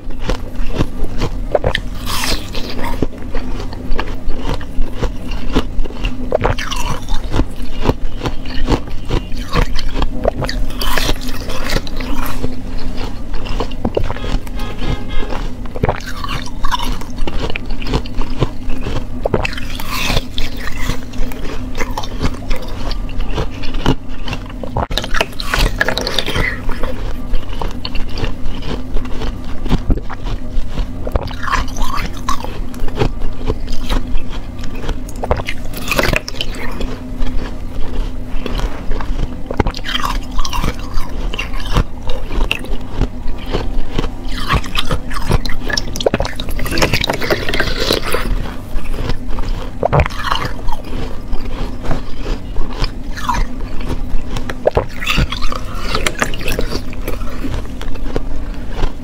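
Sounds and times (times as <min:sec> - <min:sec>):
chewing and crunching ice: 0:00.0 - 0:59.0
steady low hum: 0:00.0 - 0:59.0.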